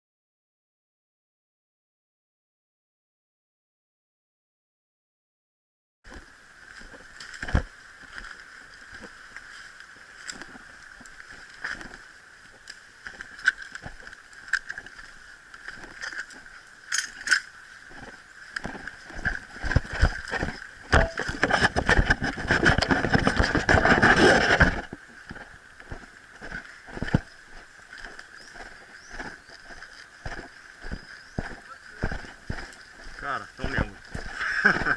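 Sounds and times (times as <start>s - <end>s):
rustling: 6.1s - 34.9s.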